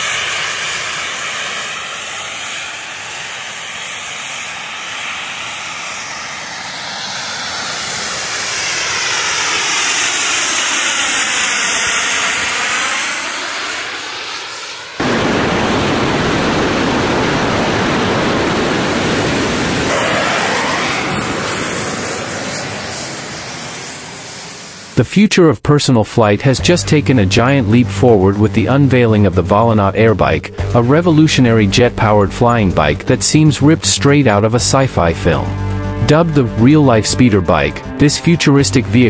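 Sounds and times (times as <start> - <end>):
jet propulsion rush: 0.0 - 25.1, 26.1 - 39.0.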